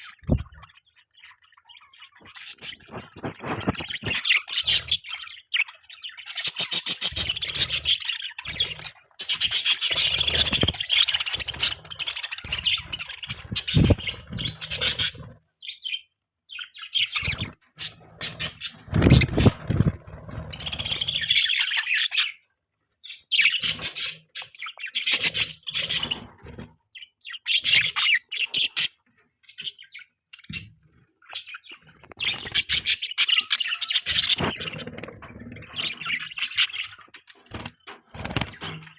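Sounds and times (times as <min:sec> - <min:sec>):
budgerigars chirping: 0:00.0 - 0:22.4, 0:23.0 - 0:38.9.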